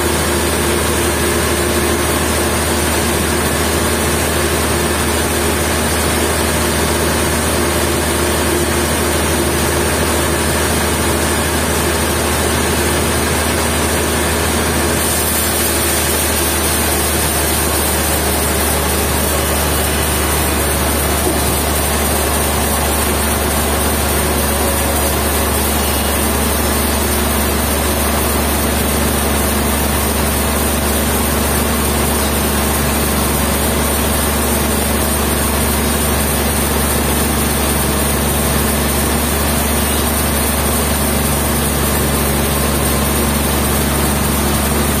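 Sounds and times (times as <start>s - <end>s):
sawmill machinery humming: 0.0s - 45.0s.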